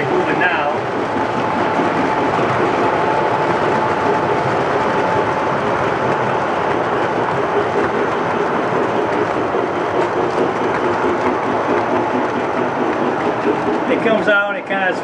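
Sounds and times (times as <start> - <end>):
toy trains rolling rumble: 0.0 - 15.0.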